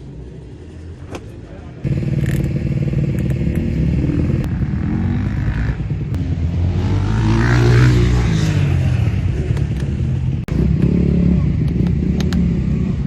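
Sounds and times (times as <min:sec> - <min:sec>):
motocross engine revving: 0:01.9 - 0:13.0.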